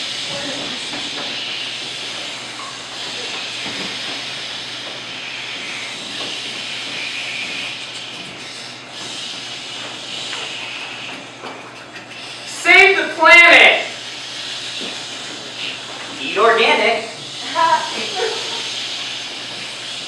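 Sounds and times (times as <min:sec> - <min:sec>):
people making hissing whooshing noise: 0:00.0 - 0:20.0.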